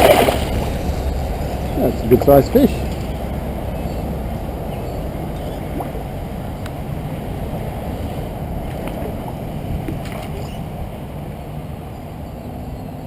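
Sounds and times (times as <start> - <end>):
low rushing noise: 0.0 - 12.7.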